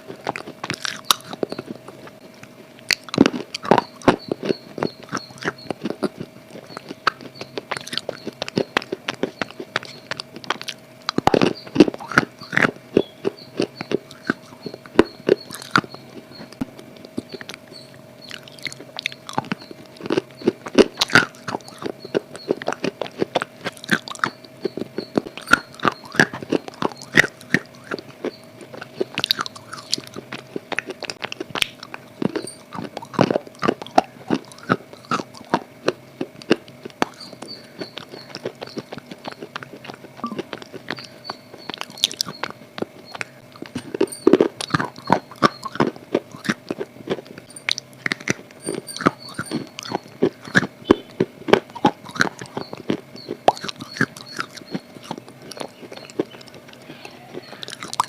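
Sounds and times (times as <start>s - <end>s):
faint steady hum: 0.0s - 58.0s
person chewing crunchy food: 0.0s - 58.0s.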